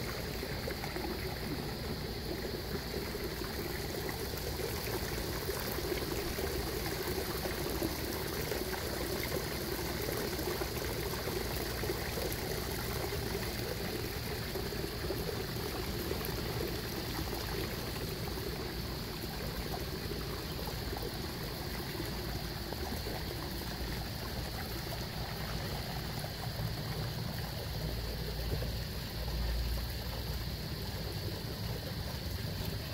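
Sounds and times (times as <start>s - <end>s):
water splashing into pond: 0.0s - 32.9s.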